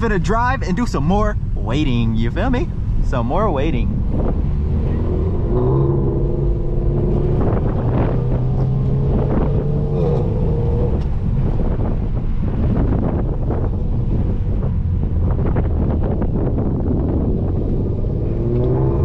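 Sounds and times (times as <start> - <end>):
low engine rumble: 0.0 - 19.0
steady engine drone: 0.0 - 19.0.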